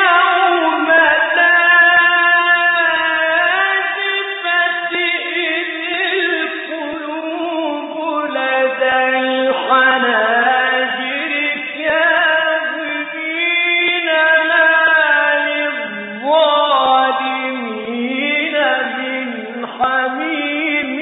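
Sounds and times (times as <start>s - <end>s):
man reciting melodically: 0.0s - 21.0s.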